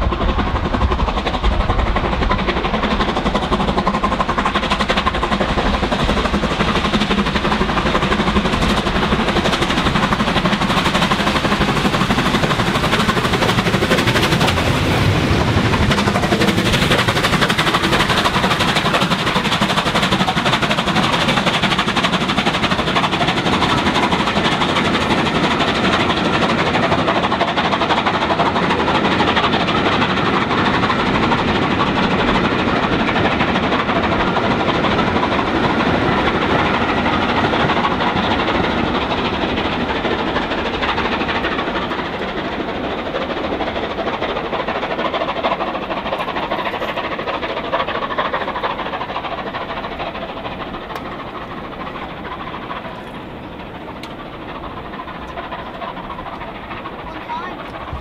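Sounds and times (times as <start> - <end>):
train coaches rumbling and clattering: 0.0 - 58.0.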